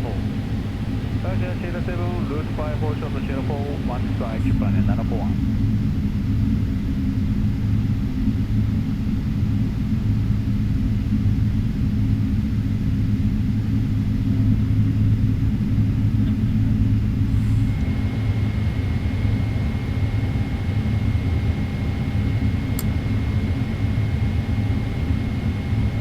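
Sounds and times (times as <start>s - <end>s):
jet engines idling in cabin: 0.0s - 26.0s.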